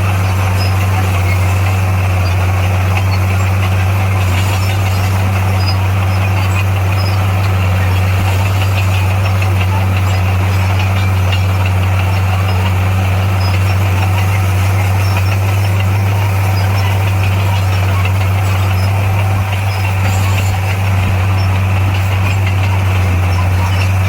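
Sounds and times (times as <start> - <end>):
heavy diesel engine droning: 0.0 - 24.0
mechanical noise: 0.0 - 24.0.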